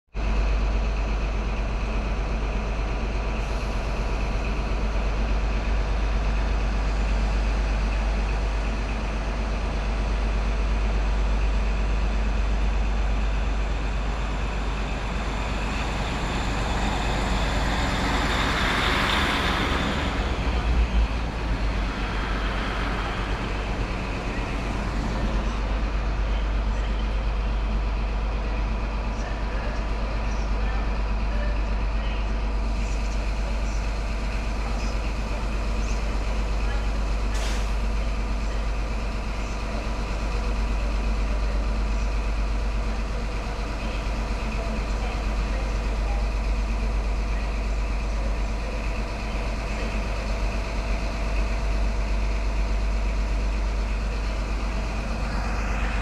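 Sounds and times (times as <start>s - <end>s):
diesel train engine: 0.0s - 56.0s
train wheel noise: 0.2s - 56.0s.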